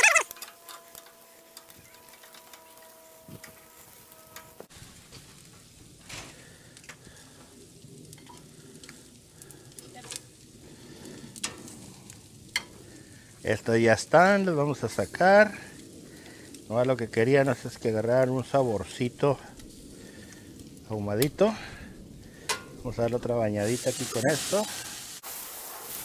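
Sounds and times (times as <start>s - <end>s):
ribs sizzling on a grill: 0.0s - 26.0s.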